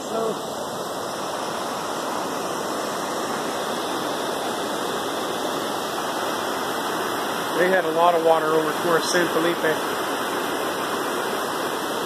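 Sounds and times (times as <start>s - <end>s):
water rushing down spillway: 0.0s - 12.0s.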